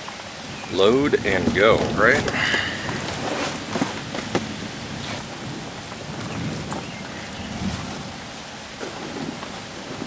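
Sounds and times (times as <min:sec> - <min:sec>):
rain falling: 0:00.0 - 0:10.0
low thunder rumble: 0:00.4 - 0:10.0.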